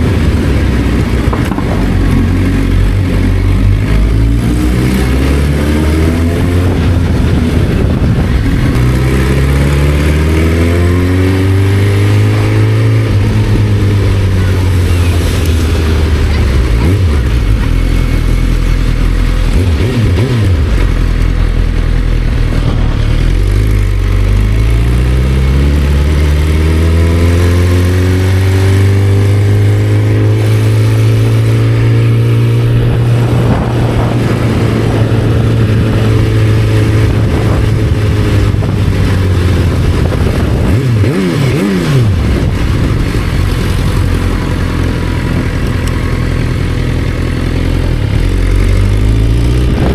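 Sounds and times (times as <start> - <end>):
motorcycle engine accelerating: 0.0 - 49.9
motorcycle rev blips: 0.0 - 49.9.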